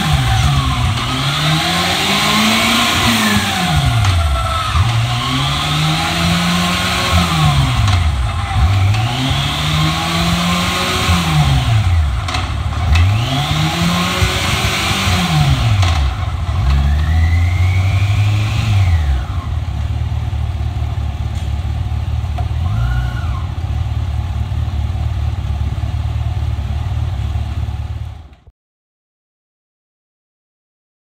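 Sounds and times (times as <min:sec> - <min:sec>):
motorcycle engine revving and idling: 0:00.0 - 0:28.5.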